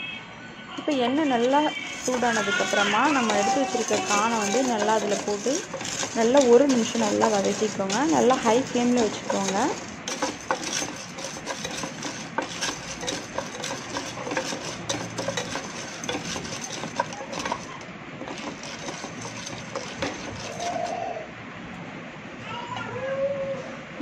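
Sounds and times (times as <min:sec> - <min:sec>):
spatula scraping pot: 0:00.8 - 0:21.1
popcorn kernels clicking: 0:00.9 - 0:21.0.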